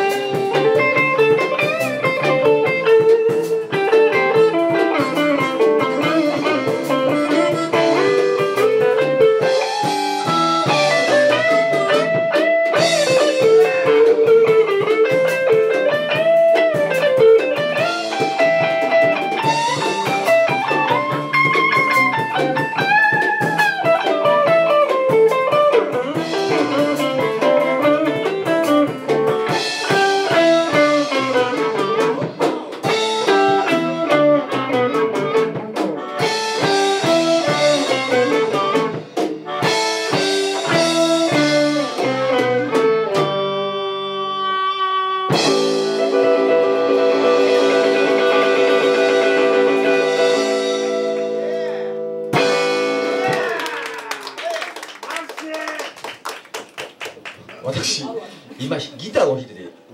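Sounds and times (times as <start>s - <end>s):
bass guitar: 0.0s - 54.6s
lead electric guitar: 0.0s - 54.6s
rhythm guitar: 0.0s - 59.9s.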